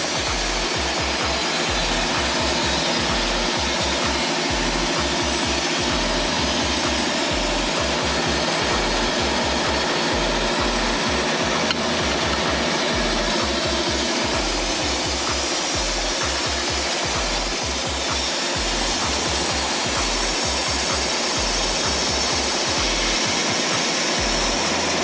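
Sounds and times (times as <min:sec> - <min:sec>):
background music with bass line: 0:00.0 - 0:25.0
band sawmill cutting log: 0:00.0 - 0:25.0.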